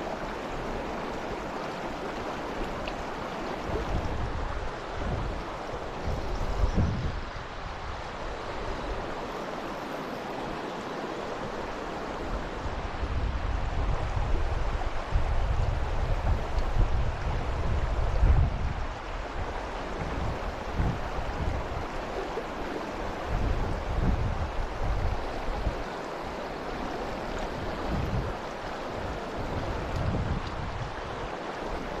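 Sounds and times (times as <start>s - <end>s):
river water rushing: 0.0s - 32.0s
wind buffeting microphone: 2.1s - 9.5s, 11.3s - 32.0s.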